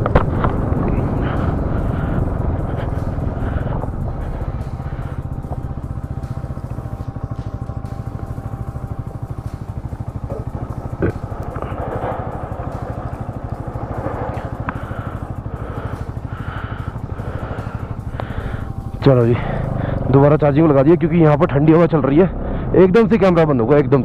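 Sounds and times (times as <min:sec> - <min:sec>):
motorcycle engine running at low revs: 0:00.0 - 0:24.0.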